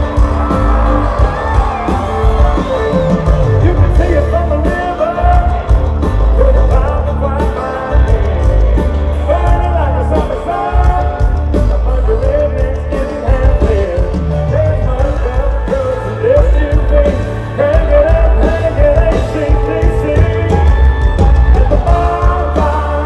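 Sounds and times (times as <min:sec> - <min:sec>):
country band playing: 0:00.0 - 0:23.0
male singing: 0:03.6 - 0:05.8, 0:06.4 - 0:23.0.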